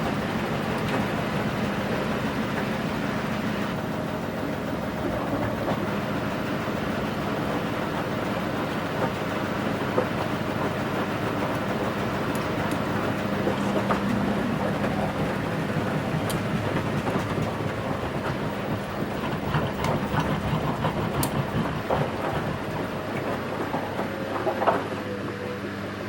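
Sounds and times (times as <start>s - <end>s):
washing machine churning: 0.0s - 26.0s.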